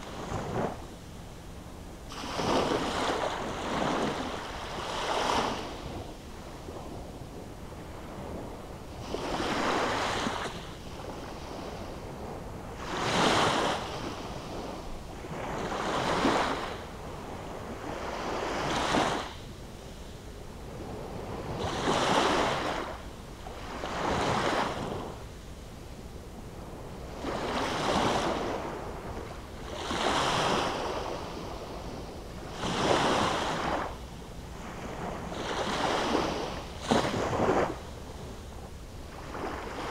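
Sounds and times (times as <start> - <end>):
small waves breaking on beach: 0.0 - 1.1, 2.1 - 25.6, 26.2 - 39.9.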